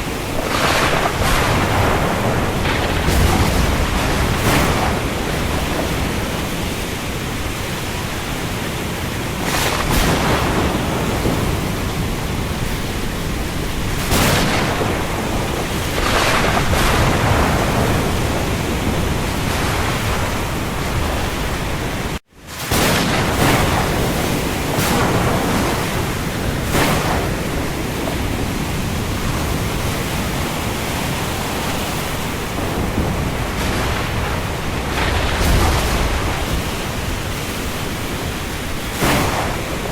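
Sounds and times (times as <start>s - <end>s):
heavy rain on sea: 0.0s - 39.9s.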